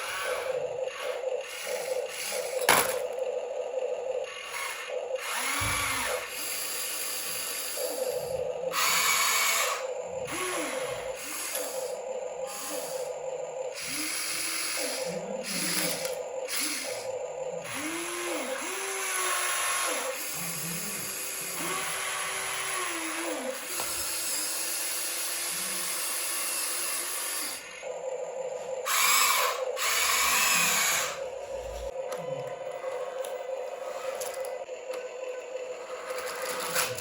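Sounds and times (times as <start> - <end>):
small electric motors whining: 0.0 - 37.0.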